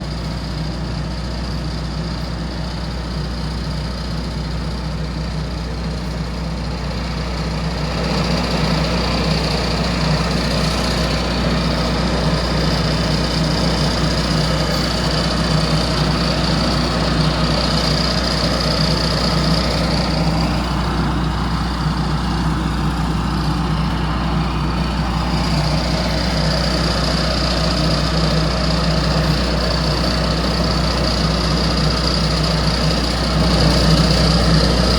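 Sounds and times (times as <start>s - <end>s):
construction machinery engine running: 0.0s - 34.9s
high whine: 5.4s - 34.9s.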